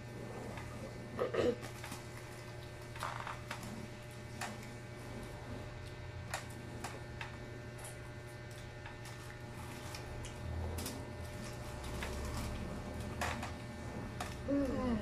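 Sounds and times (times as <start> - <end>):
steady low hum: 0.0 - 15.0
chewing and handling food: 0.1 - 14.8.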